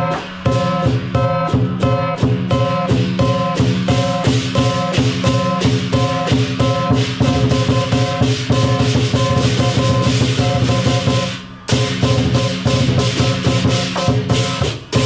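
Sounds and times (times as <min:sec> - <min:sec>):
music with drums and percussion: 0:00.0 - 0:15.0.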